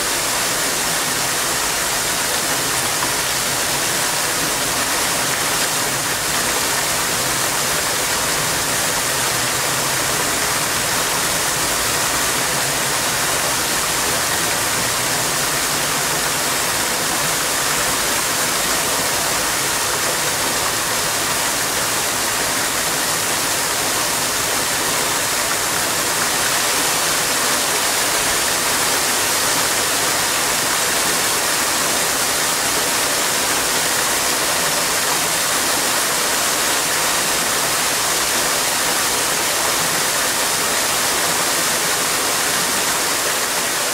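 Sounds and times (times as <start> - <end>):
fountain water splashing: 0.0 - 43.9.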